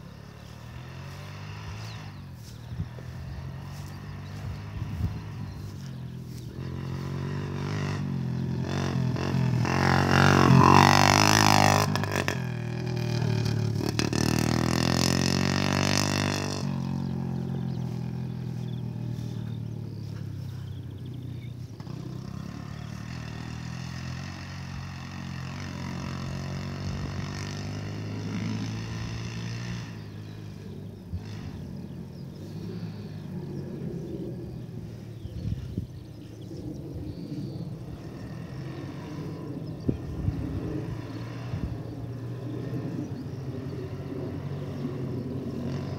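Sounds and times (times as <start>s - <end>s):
dirt bike engine: 0.0s - 45.9s.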